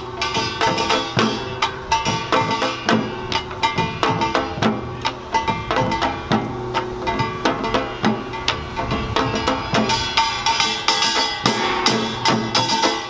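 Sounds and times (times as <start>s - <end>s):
drums beating: 0.0s - 13.0s
small gongs clanging: 0.0s - 13.0s.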